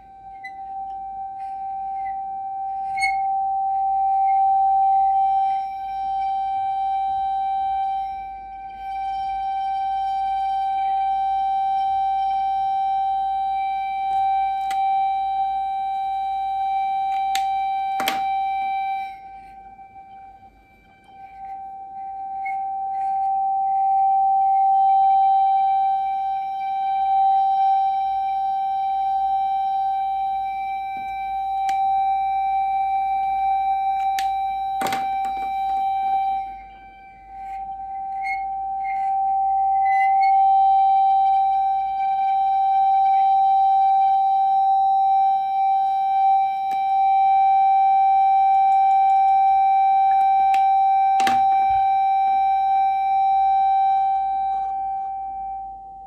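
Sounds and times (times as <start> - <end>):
steady pure tone: 0.0 - 56.0.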